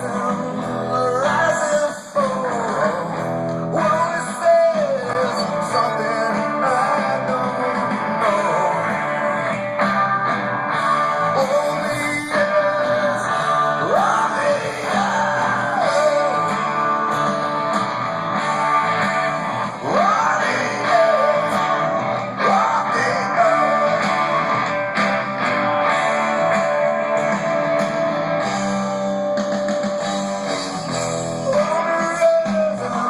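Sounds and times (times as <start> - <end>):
rock band playing live: 0.0 - 33.0
strummed electric guitars: 0.0 - 33.0.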